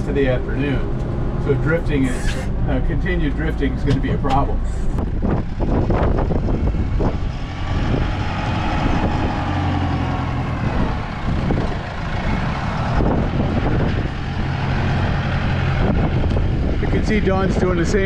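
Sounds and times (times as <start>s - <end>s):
tractor engine running under load: 2.8s - 18.0s.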